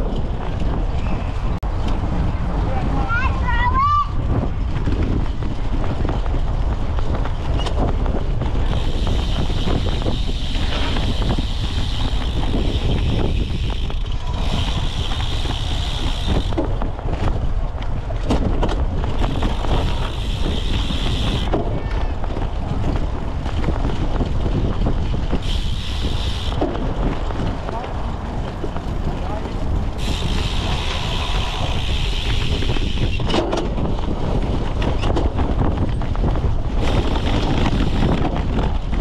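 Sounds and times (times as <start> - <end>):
bike rattling over rough ground: 0.0 - 39.0
wind buffeting microphone: 0.0 - 39.0.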